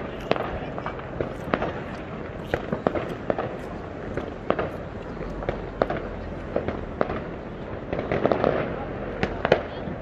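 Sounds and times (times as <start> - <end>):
distant firework bursts: 0.0 - 10.0
fireworks bangs and pops: 0.0 - 10.0.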